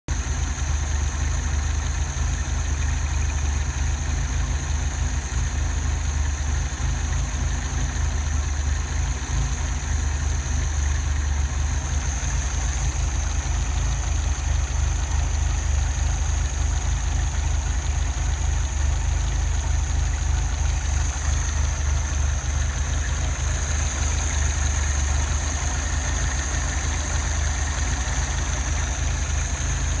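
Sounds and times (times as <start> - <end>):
car engine idling roughly: 0.1 - 30.0.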